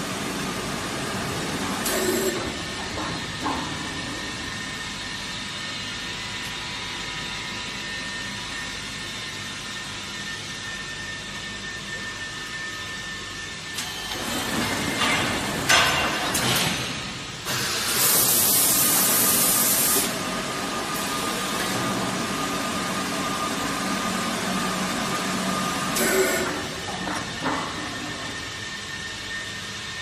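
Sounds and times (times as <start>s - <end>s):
machine humming: 0.0s - 30.0s.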